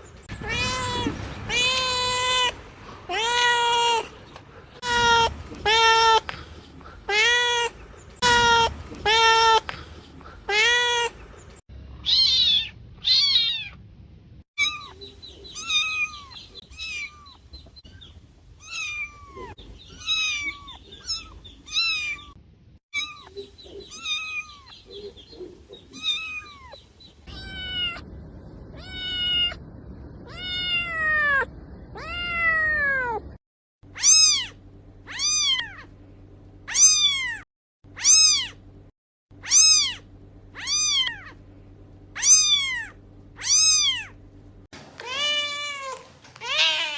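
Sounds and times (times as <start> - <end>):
cats meowing: 0.0 - 13.8, 14.6 - 17.5, 18.6 - 22.4, 23.0 - 28.1, 28.7 - 29.6, 30.2 - 33.4, 34.0 - 35.9, 36.7 - 37.4, 38.0 - 38.6, 39.4 - 40.0, 40.6 - 41.4, 42.2 - 44.2, 44.9 - 46.9.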